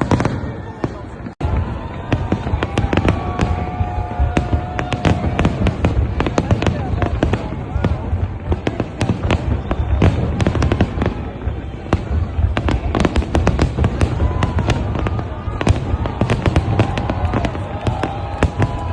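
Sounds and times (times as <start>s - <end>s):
fireworks crackling bangs: 0.0s - 18.9s.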